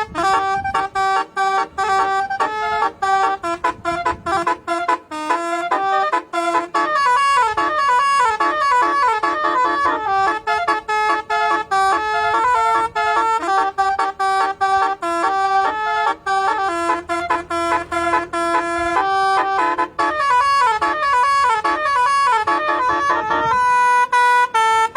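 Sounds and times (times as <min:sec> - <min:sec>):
musical air horn melody: 0:00.0 - 0:24.9.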